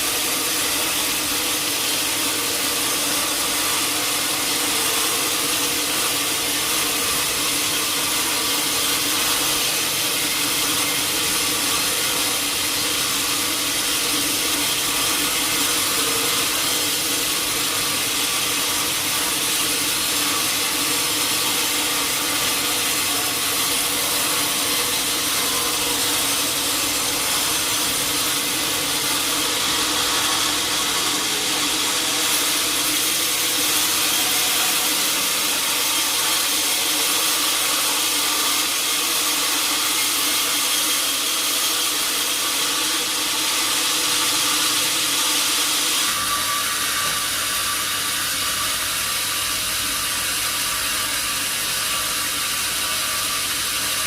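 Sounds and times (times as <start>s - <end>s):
saw cutting a log: 0.0s - 54.0s.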